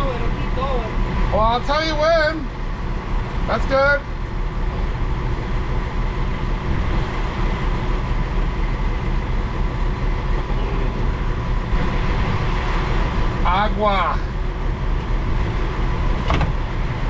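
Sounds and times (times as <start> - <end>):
heavy equipment engine running: 0.0 - 17.0.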